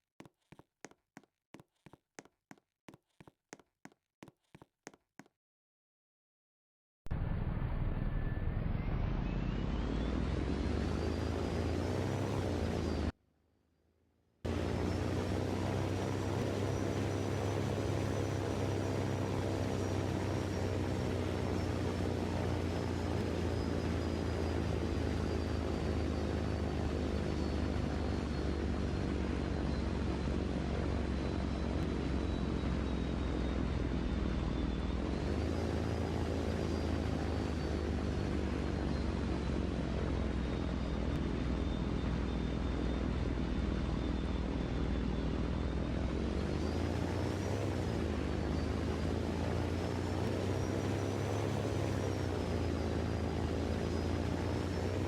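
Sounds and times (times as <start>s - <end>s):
engine drone with high whine: 7.1s - 13.2s, 14.5s - 55.0s.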